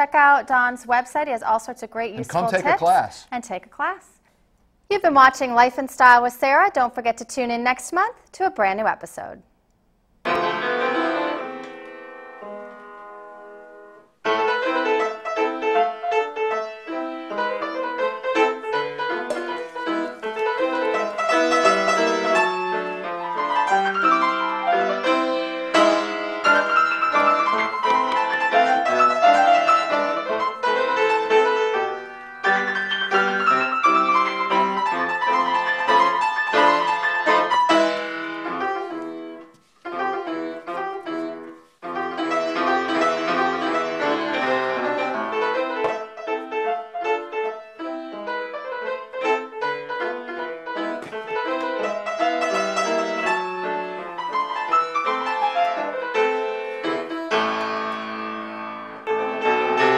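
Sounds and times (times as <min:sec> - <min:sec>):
piano music: 0:10.3 - 0:59.9.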